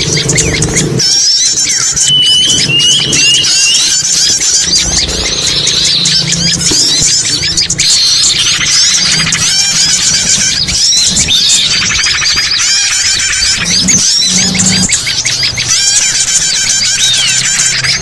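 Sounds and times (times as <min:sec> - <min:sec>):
low hum: 0:00.0 - 0:15.7
songbirds chirping and twittering: 0:00.0 - 0:18.0.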